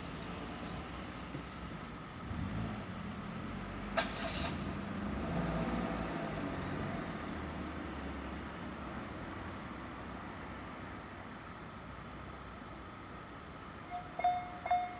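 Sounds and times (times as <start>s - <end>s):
road traffic passing: 0.0s - 14.9s.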